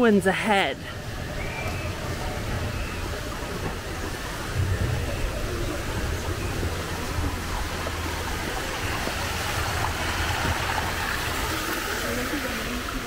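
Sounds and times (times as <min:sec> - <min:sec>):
waterfall splashing over rocks: 0:01.1 - 0:13.0.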